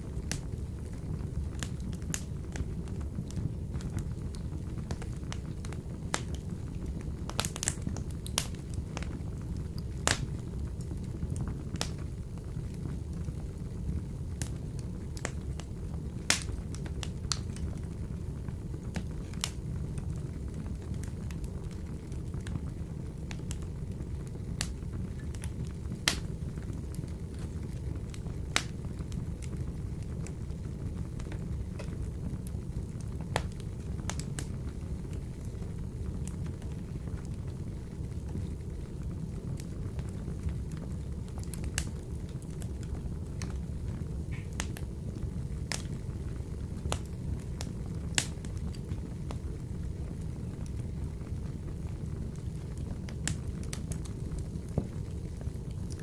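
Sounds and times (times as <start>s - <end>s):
fire rumbling in wood stove: 0.0s - 56.0s
wood popping and crackling: 0.2s - 12.0s, 14.4s - 17.9s, 18.5s - 22.7s, 24.3s - 37.5s, 38.1s - 49.6s, 52.0s - 56.0s.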